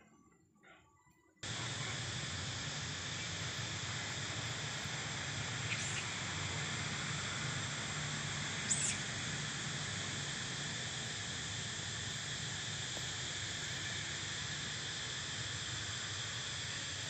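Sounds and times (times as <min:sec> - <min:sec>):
insects buzzing: 0:01.4 - 0:17.0.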